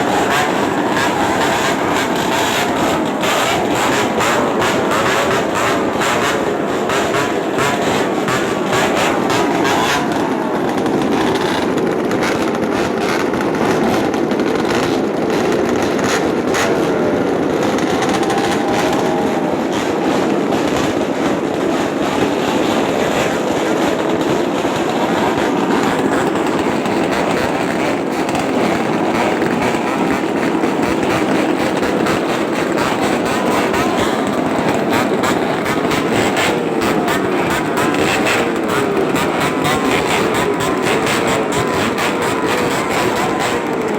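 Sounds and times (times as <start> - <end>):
motorcycle exhaust rasping: 0.0 - 16.9, 25.2 - 43.9.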